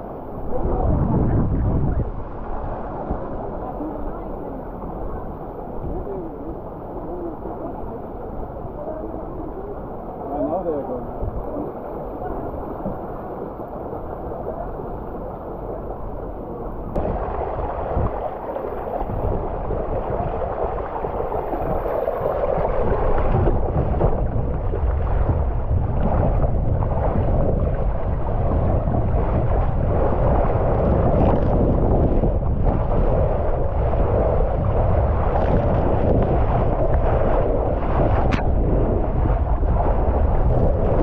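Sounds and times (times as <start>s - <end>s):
water rushing through a waterslide: 0.0s - 41.0s
wind rumble on microphone: 0.0s - 41.0s
water gushing from jets: 2.4s - 41.0s.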